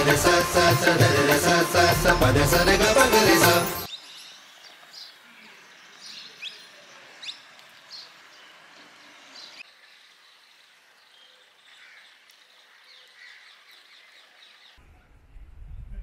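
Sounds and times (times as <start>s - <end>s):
outdoor ambience: 0.0s - 16.0s
birds chirping: 1.7s - 14.8s.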